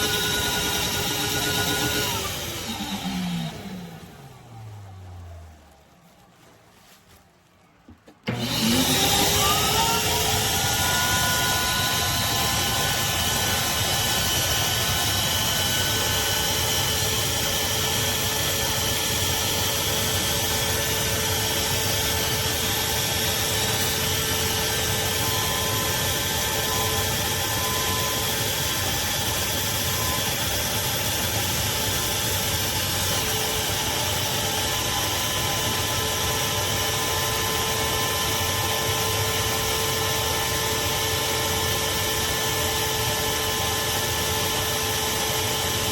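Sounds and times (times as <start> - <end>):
shop vacuum running: 0.0 - 7.0, 7.9 - 45.9.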